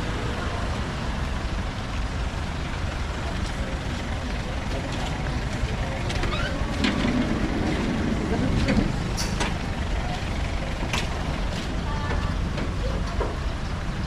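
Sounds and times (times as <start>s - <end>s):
faint voices: 0.0s - 14.0s
road traffic rumble: 0.0s - 14.0s.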